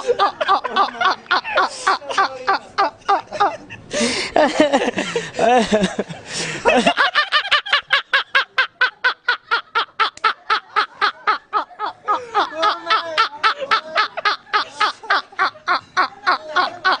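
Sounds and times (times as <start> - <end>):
person laughing hard: 0.0 - 17.0.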